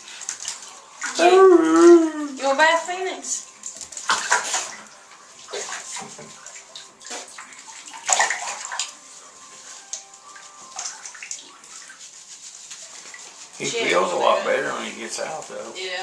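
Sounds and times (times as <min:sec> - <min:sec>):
water splashing in bathtub: 0:00.0 - 0:16.0.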